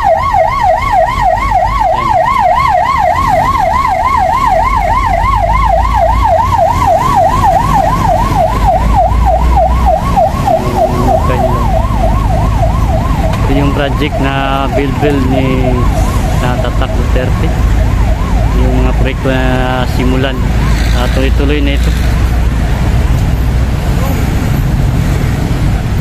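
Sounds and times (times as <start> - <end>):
emergency siren yelping: 0.0 - 22.8
road traffic rumble: 0.0 - 26.0.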